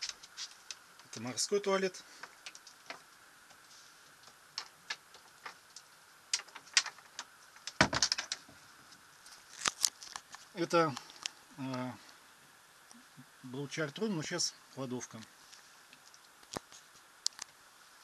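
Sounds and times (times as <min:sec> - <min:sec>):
low steady hiss: 0:00.0 - 0:18.0.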